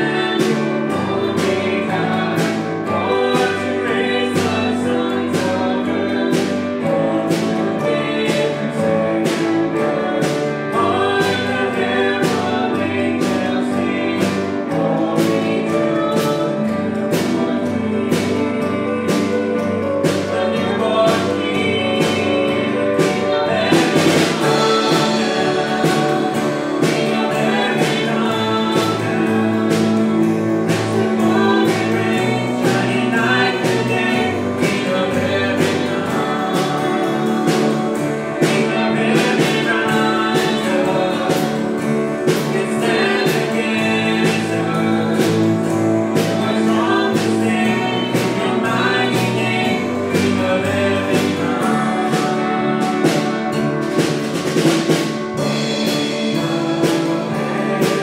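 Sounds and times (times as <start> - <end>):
worship music with singing: 0.0 - 58.0.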